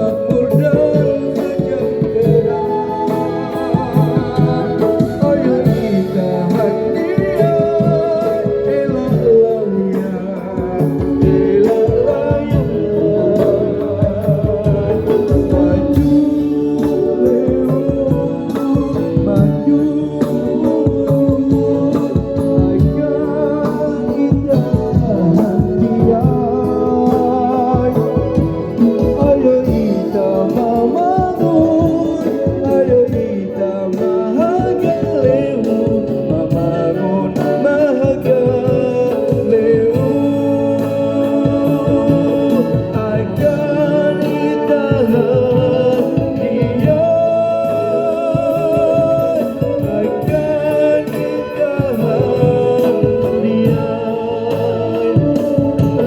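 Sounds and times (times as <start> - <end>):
instrumental accompaniment: 0.0 - 56.0
person singing: 0.0 - 56.0.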